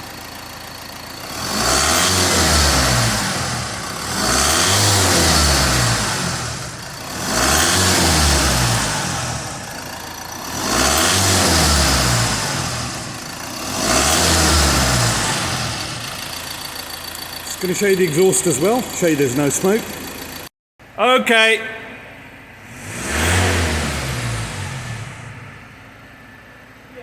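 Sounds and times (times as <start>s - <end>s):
diesel engine revving: 0.0s - 20.5s, 22.4s - 26.8s.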